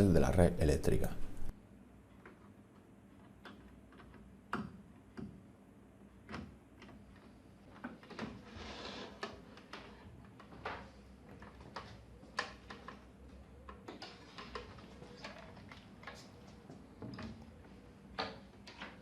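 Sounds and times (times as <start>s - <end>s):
connectors clicking: 2.1s - 8.5s, 9.1s - 19.0s.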